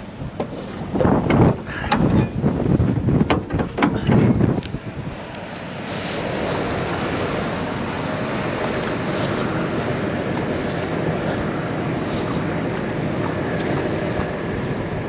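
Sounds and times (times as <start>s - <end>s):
diesel truck rumbling: 0.0s - 15.0s
wind on microphone: 0.0s - 15.0s.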